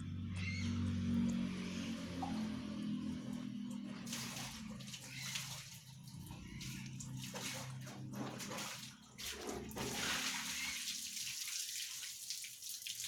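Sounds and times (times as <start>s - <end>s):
water running from a tap: 1.0s - 13.0s.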